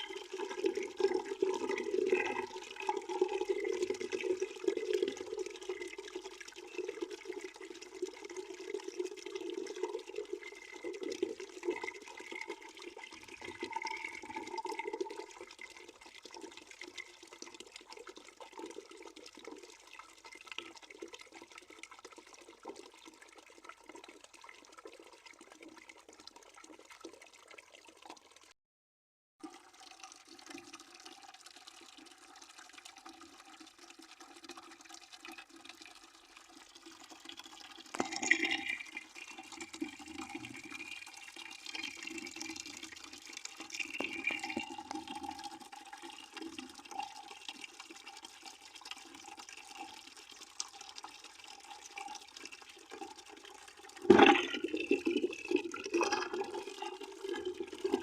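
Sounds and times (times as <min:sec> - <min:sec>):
water running into a bucket: 0:00.0 - 0:28.6, 0:29.4 - 0:58.0.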